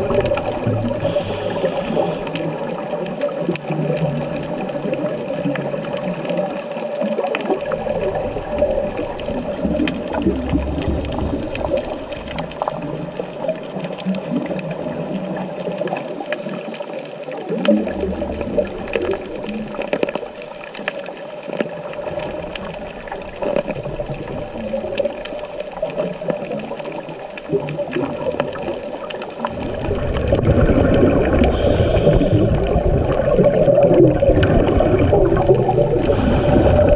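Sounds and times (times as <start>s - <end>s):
steady underwater hum: 0.0s - 36.9s
underwater regulator bubbles: 0.0s - 36.9s.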